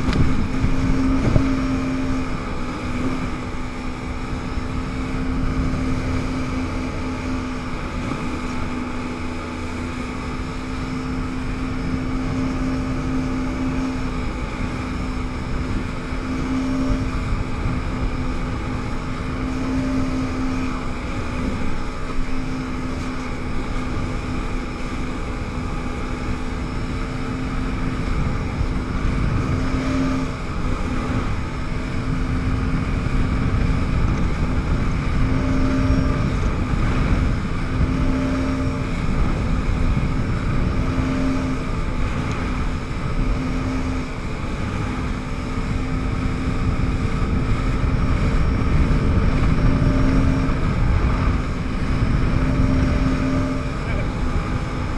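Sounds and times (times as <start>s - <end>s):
jet ski engine running: 0.0s - 54.9s
wind and water spray: 0.0s - 54.9s.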